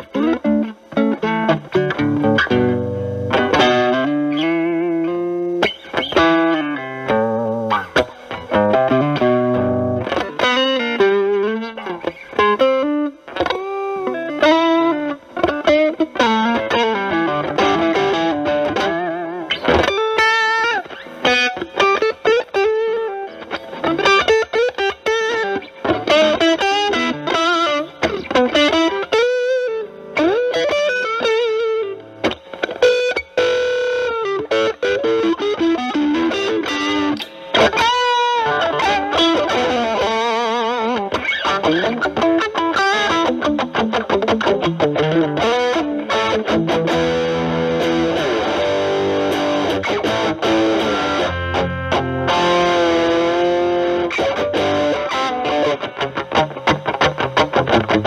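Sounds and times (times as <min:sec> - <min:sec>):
distorted electric guitar lead: 0:00.0 - 0:58.0.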